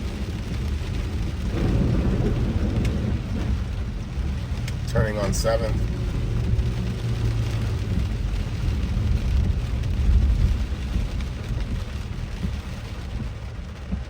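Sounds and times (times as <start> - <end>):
car engine and tyres rumbling: 0.0 - 14.0
rain hissing on car: 0.0 - 14.0.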